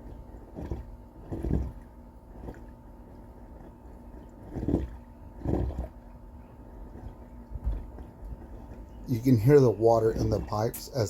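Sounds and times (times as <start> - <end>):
dryer exhaust air blowing: 0.0 - 11.0
water gurgling in vent line: 0.0 - 11.0.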